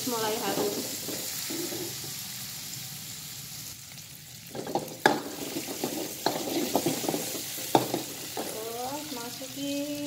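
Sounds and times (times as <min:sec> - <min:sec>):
food sizzling in oil in a wok: 0:00.0 - 0:10.0.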